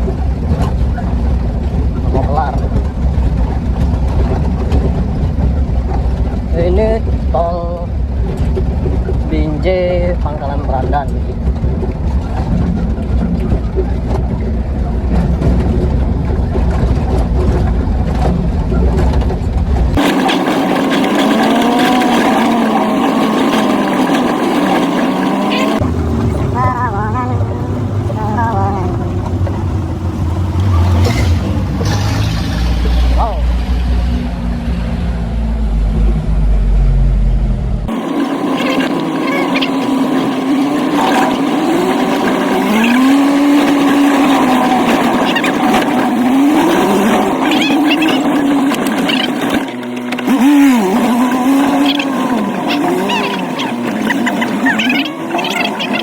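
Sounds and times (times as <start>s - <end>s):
steady engine whine: 0.0s - 56.0s
truck engine running: 0.0s - 56.0s.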